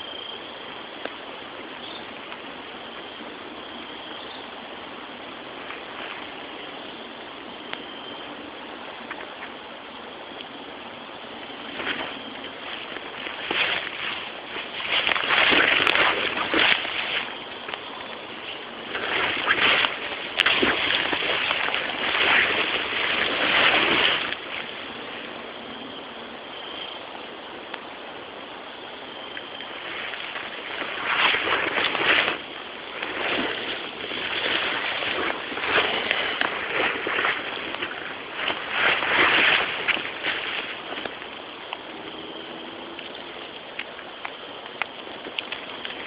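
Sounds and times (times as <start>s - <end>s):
tall grass rustling while walking: 0.9s - 25.6s, 29.3s - 42.0s, 43.0s - 46.0s.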